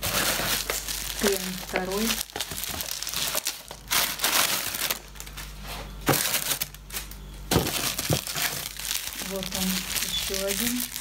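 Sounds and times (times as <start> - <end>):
bubble wrap crinkling: 0.0 - 11.0
sharp plastic crackle: 0.0 - 11.0.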